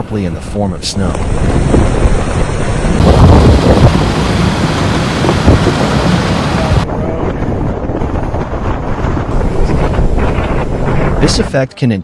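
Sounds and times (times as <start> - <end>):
storm wind buffeting microphone: 0.0 - 11.7
heavy low rumbles: 0.1 - 11.5.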